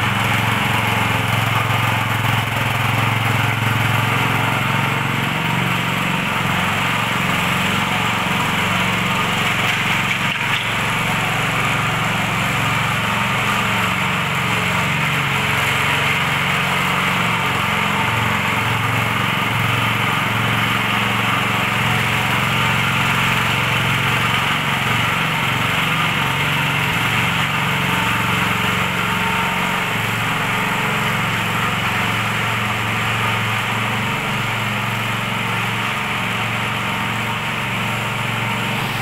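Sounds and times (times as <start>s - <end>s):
power trowel engine running: 0.0s - 39.0s.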